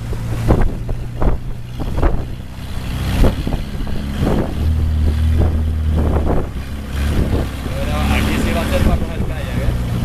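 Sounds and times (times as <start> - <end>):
boat engine running: 0.0 - 10.0
rushing wind and water: 0.0 - 10.0.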